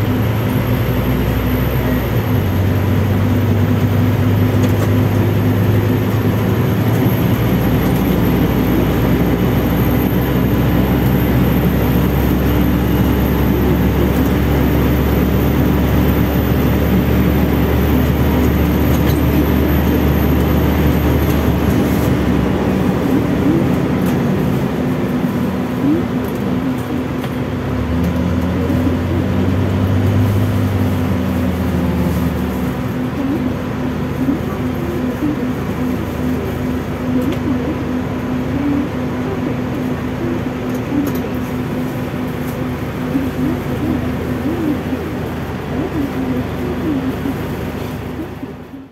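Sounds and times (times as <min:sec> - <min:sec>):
bus air conditioning humming: 0:00.0 - 0:48.9
diesel engine droning: 0:00.0 - 0:48.9.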